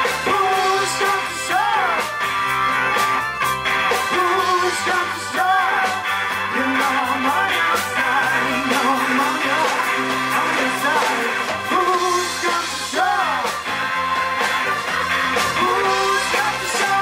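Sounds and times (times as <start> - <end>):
bass guitar: 0.0 - 17.0
drum kit beat: 0.0 - 17.0
electric guitar: 0.0 - 17.0
keyboard: 0.0 - 17.0.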